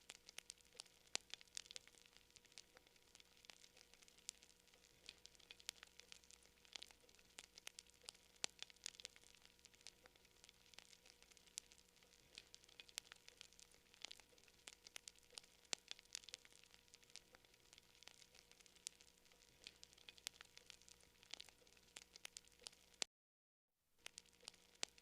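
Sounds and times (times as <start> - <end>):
campfire crackling and popping: 0.0 - 23.1, 24.0 - 25.0
faint hiss: 0.0 - 23.1.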